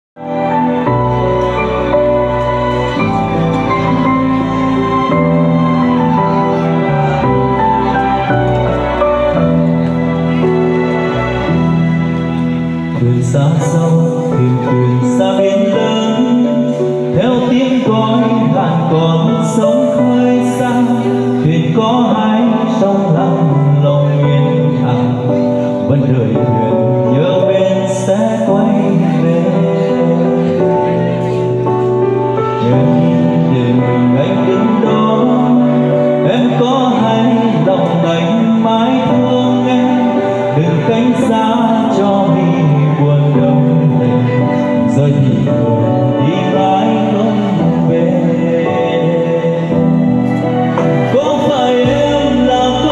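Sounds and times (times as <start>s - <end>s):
instrumental backing track: 0.2s - 52.9s
man singing into a microphone: 0.2s - 52.9s.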